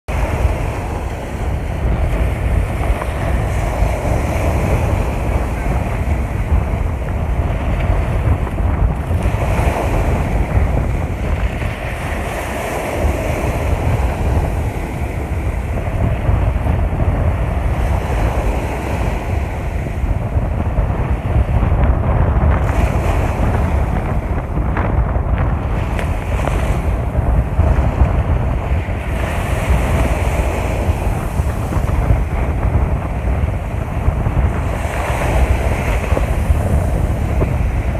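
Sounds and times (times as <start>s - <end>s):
small waves washing on sand: 0.1s - 37.9s
wind buffeting microphone: 0.1s - 37.9s.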